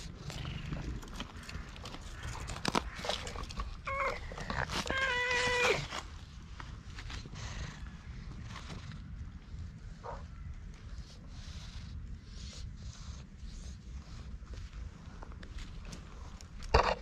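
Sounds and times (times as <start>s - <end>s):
faint clicks and rustles: 0.0s - 12.1s, 13.4s - 17.0s.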